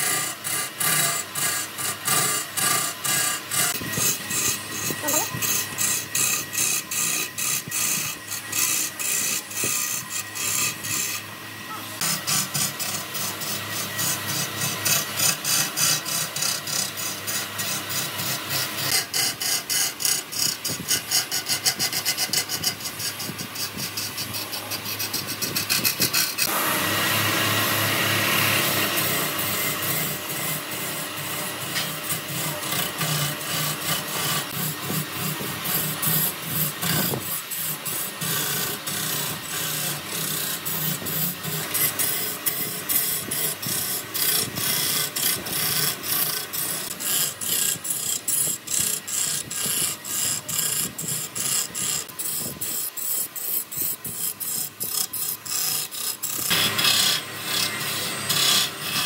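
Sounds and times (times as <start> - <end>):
tool rasping wood: 0.0 - 59.0.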